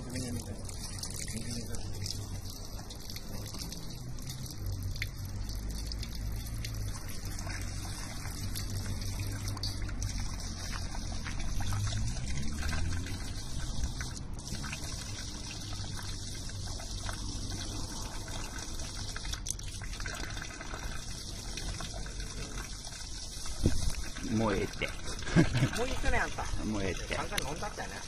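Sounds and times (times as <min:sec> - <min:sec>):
water splashing into basin: 0:00.0 - 0:28.0.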